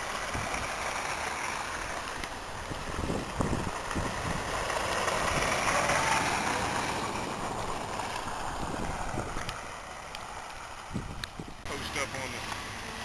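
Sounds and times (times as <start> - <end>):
wind buffeting microphone: 0.0 - 0.9, 1.7 - 11.8
vehicle passing on wet road: 0.0 - 13.0.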